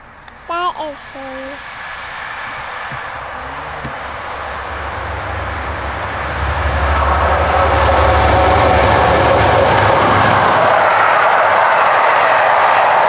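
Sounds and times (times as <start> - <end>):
train rumble: 0.0 - 13.0
diesel locomotive engine throb: 1.1 - 13.0.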